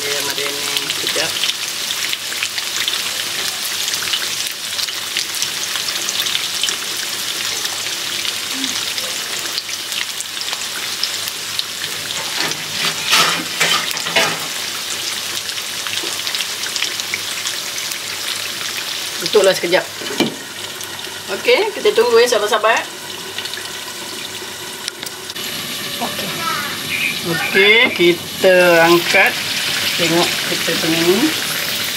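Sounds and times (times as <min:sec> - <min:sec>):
beef sizzling in a wok: 0:00.0 - 0:31.9.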